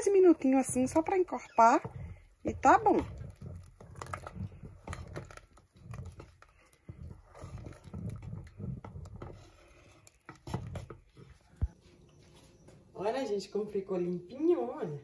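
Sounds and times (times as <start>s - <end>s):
wooden spoon stirring thick porridge: 0.0s - 13.6s.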